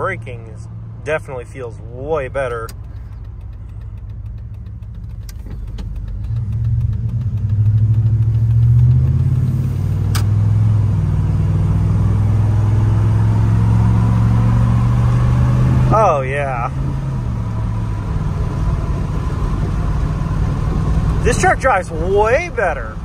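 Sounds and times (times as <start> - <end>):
engine accelerating inside cab: 0.0 - 23.0.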